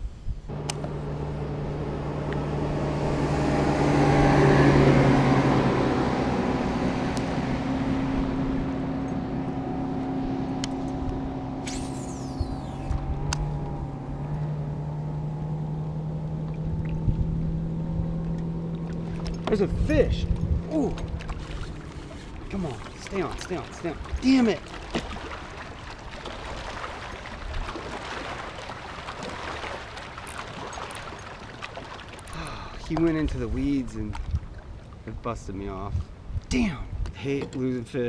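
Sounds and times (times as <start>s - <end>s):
motorboat engine droning: 0.5s - 36.3s.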